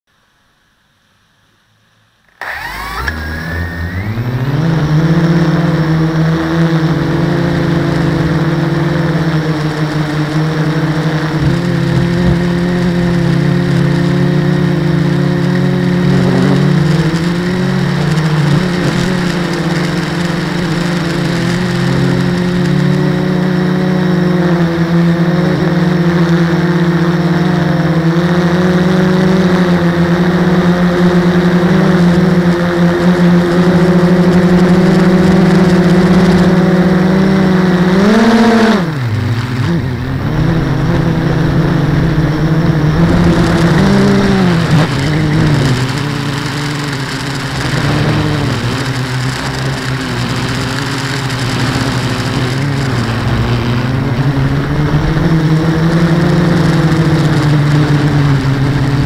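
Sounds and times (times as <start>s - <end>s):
drone propellers buzzing: 2.2s - 59.0s.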